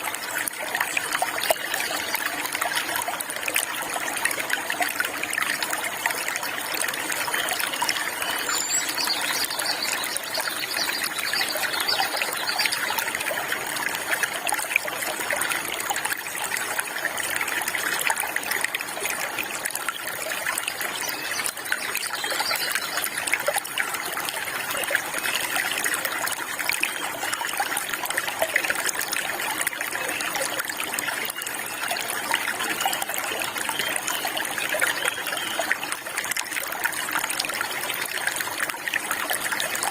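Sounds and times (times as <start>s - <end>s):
water flowing over stones: 0.0s - 39.9s.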